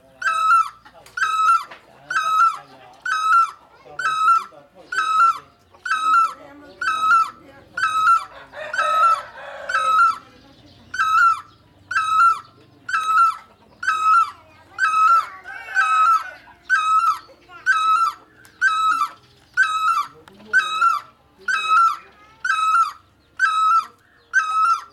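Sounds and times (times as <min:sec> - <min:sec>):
barbet calling: 0:00.0 - 0:24.9.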